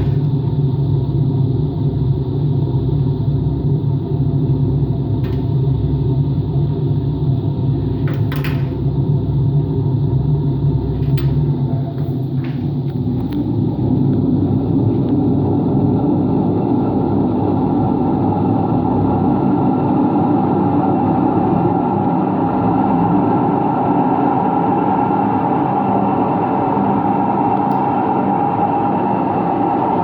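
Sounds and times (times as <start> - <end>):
washing machine spinning roughly: 0.0 - 30.0.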